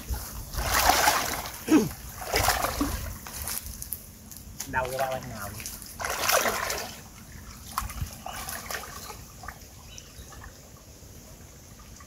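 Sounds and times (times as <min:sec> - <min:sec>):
water splashing: 0:00.0 - 0:03.7, 0:04.8 - 0:10.8.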